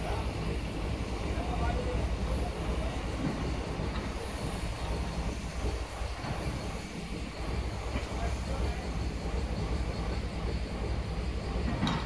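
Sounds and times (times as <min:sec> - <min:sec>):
locomotive engine rumble: 0:00.0 - 0:12.0
train wheels on rails: 0:00.0 - 0:12.0.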